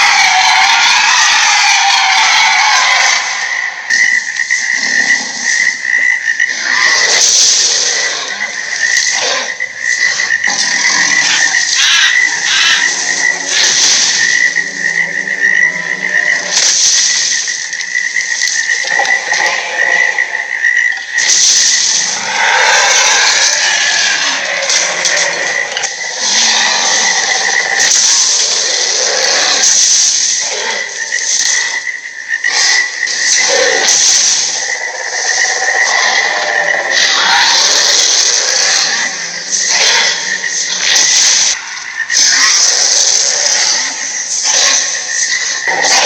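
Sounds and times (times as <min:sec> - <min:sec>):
loud croaking animal calls: 0:00.0 - 0:46.0.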